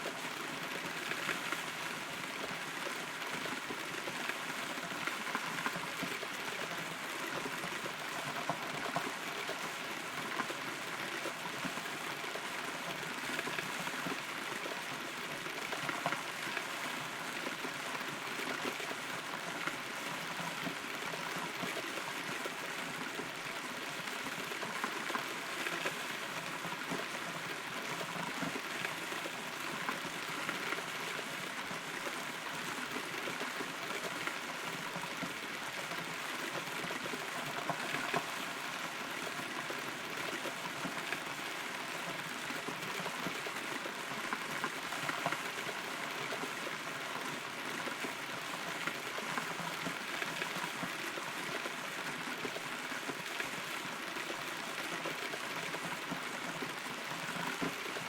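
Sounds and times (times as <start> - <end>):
rain pattering on wood: 0.0 - 58.0.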